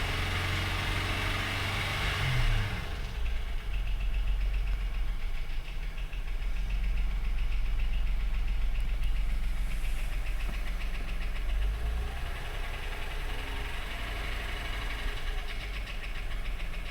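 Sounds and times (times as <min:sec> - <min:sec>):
car engine idling: 0:00.0 - 0:16.9
engine knock: 0:00.0 - 0:16.9.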